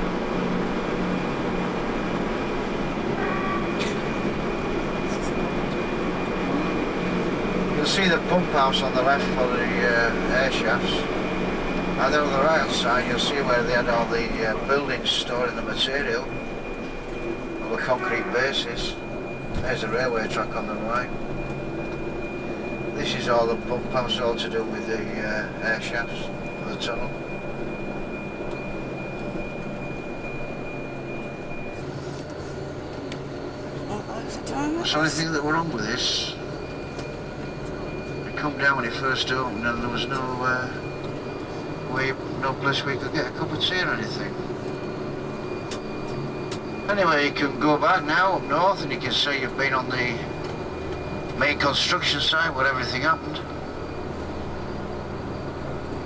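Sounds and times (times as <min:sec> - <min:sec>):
high-pitched whine: 0:00.0 - 0:56.0
vehicle engine and road noise: 0:00.0 - 0:56.0.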